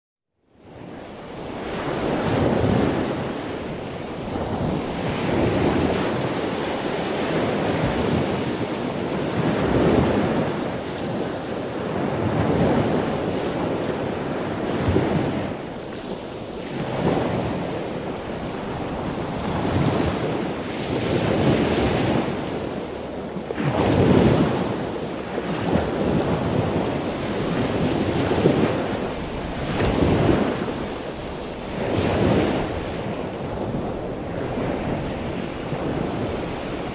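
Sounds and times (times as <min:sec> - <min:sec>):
wind buffeting microphone: 0:00.6 - 0:36.9.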